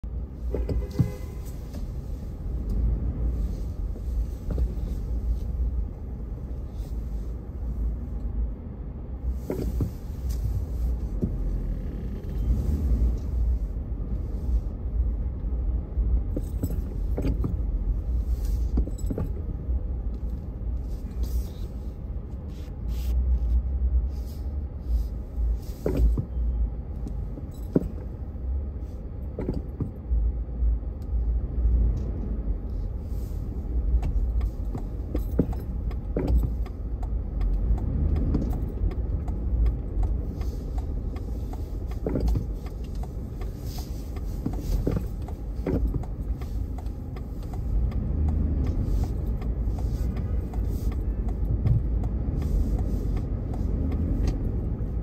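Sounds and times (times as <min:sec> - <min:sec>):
car cabin rumble: 0:00.0 - 0:55.0.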